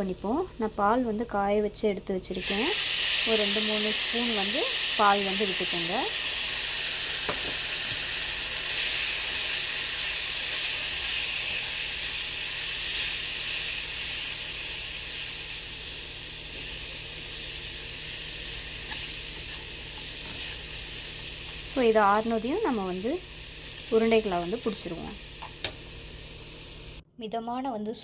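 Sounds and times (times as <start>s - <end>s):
mixture sizzling in a pan: 2.3s - 27.0s.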